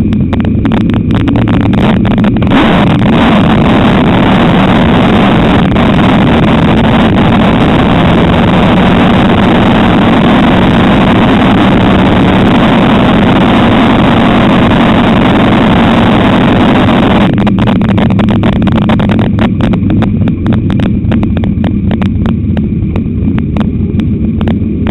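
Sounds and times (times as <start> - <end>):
exhaust pops: 0.0 - 24.9
race car engine running: 0.0 - 24.9.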